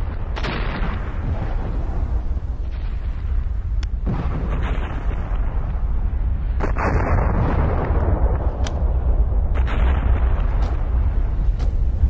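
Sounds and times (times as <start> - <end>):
deep continuous rumble: 0.0 - 12.0.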